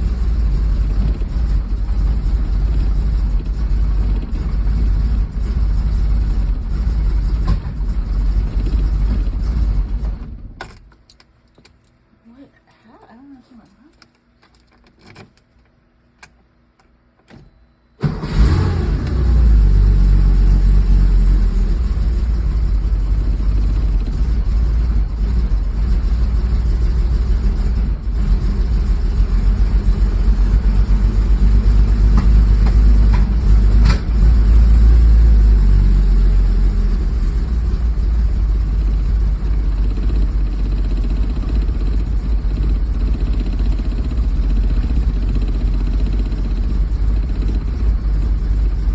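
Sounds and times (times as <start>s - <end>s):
car engine running rough: 0.0s - 10.7s, 18.0s - 48.9s
engine sharp pops: 0.0s - 11.1s, 18.0s - 48.9s.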